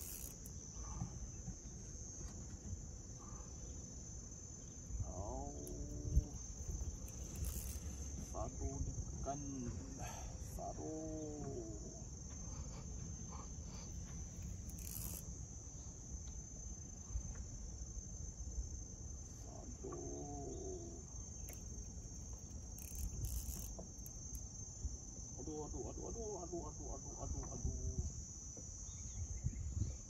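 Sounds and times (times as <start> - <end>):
high-pitched insect drone: 0.0 - 1.7, 3.2 - 30.0.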